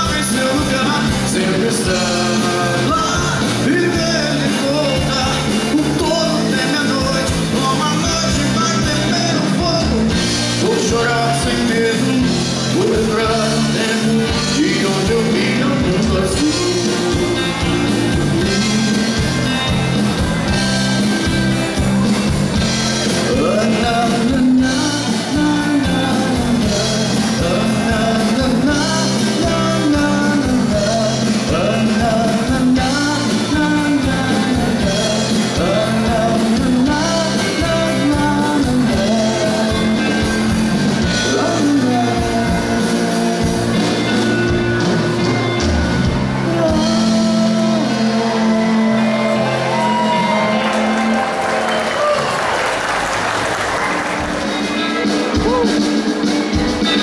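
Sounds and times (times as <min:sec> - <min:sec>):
man singing into a microphone: 0:00.0 - 0:19.6, 0:23.1 - 0:45.4, 0:46.1 - 0:51.4
drums: 0:00.0 - 0:57.0
electric guitars: 0:00.0 - 0:57.0.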